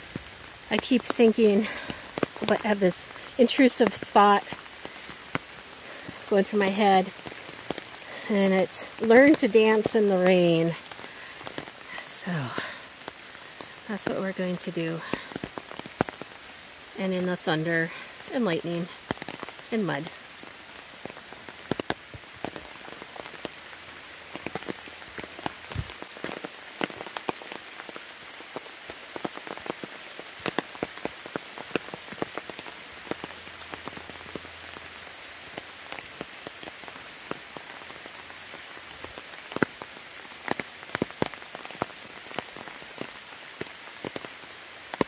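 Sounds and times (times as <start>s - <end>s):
rain hissing: 0.0s - 45.0s
raindrops ticking: 0.0s - 45.0s.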